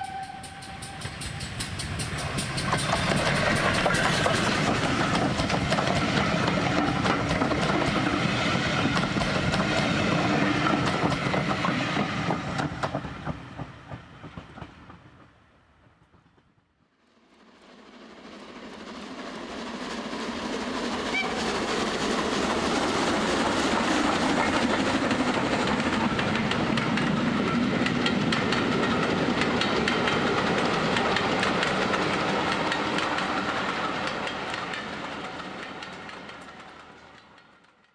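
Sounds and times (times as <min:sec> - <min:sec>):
wheels clickety-clack over track: 0:00.0 - 0:16.6, 0:20.1 - 0:37.9
train rumbling on rails: 0:00.0 - 0:37.9.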